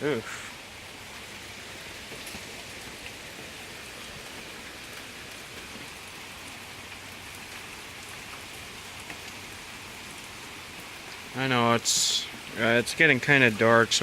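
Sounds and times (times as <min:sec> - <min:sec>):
heavy rain hissing: 0:00.0 - 0:14.0
raindrops ticking: 0:00.0 - 0:14.0.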